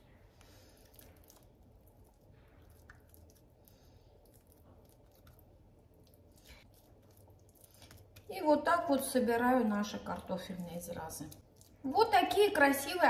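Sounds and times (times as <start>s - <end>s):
dough squishing in hands: 0.0s - 13.0s.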